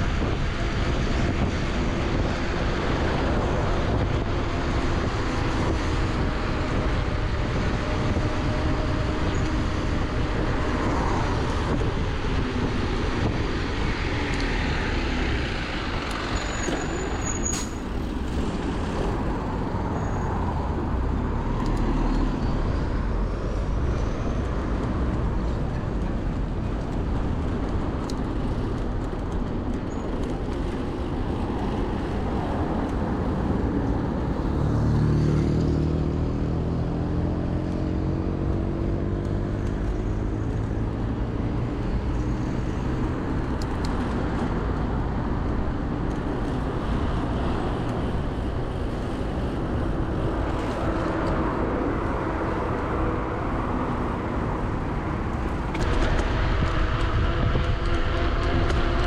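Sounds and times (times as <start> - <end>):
steady engine hum: 0.0 - 59.0
wind and road noise: 0.0 - 59.0.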